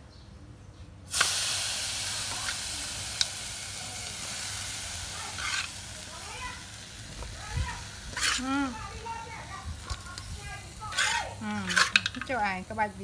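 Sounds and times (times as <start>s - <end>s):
food sizzling in hot oil: 1.1s - 13.0s.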